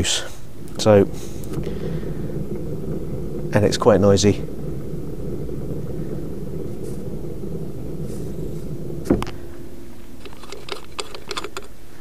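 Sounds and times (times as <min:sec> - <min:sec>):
trailer wheel clunk: 0:00.0 - 0:11.8
steady low rumble: 0:00.0 - 0:12.0.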